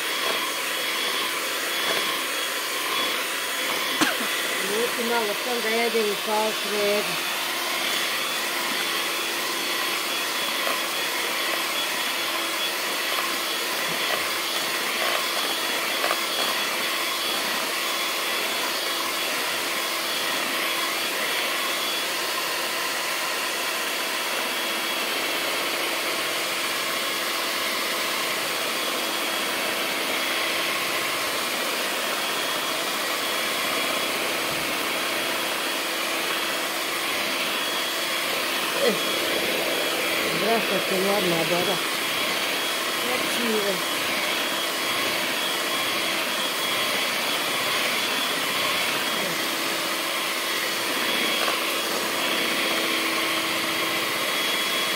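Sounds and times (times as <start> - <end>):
electric hand mixer running: 0.0 - 54.9.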